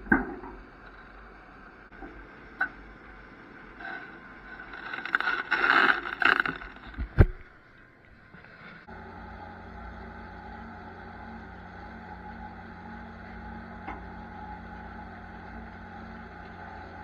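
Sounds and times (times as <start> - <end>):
diesel engine running: 0.0 - 7.9, 8.8 - 17.0.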